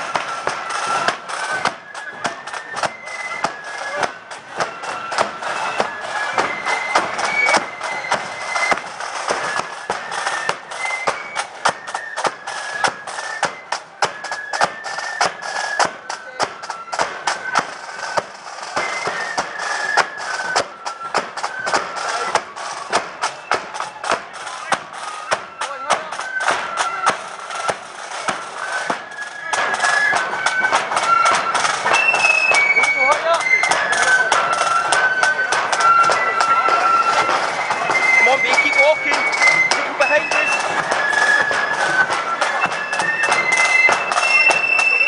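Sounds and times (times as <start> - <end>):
flutes playing a tune: 0.0 - 45.0
snare and bass drums beating: 0.0 - 45.0.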